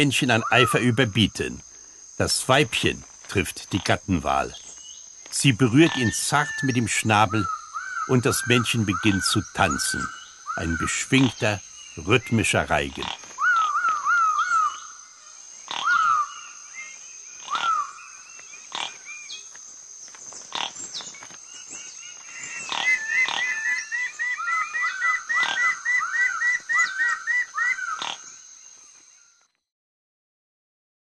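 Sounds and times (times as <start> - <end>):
birds calling loudly: 0.0 - 19.6, 20.2 - 29.3
high insect drone: 0.0 - 29.6.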